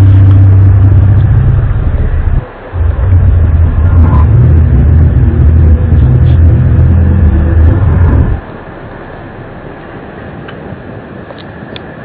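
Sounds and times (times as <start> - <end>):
low droning rumble in sky: 0.0 - 12.0.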